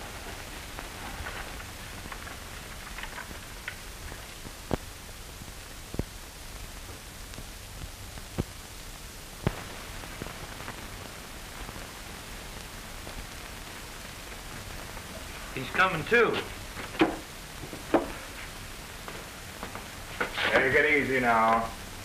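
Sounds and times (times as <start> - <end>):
film soundtrack hiss: 0.0 - 22.0.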